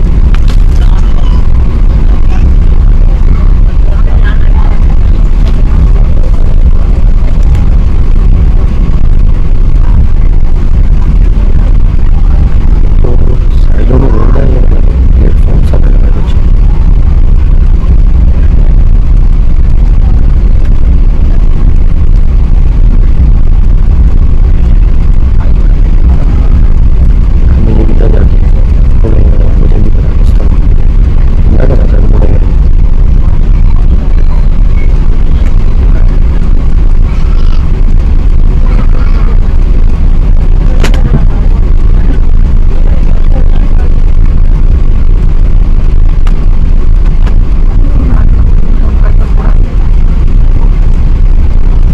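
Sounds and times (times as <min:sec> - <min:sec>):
aircraft engines rumbling in cabin: 0:00.0 - 0:51.9.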